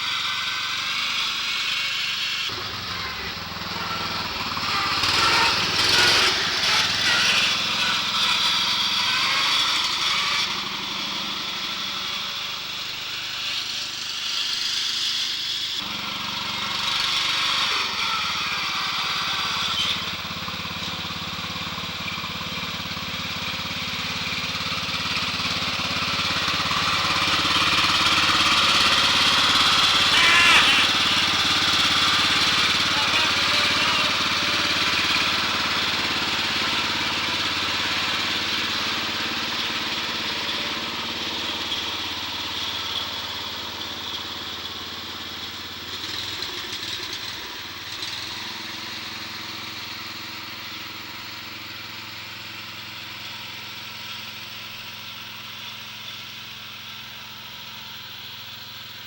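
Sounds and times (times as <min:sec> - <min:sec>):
riding mower engine running: 0:00.0 - 0:59.0.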